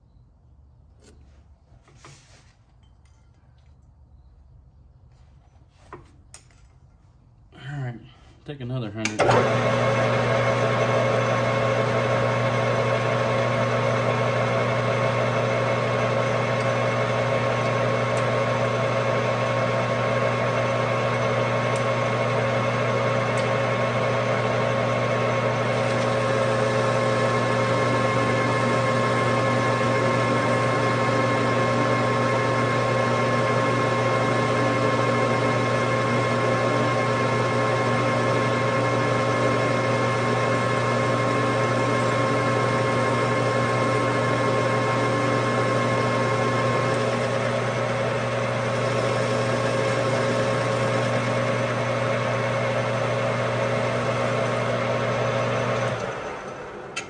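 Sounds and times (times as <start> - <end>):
metal lathe running: 9.1 - 57.0.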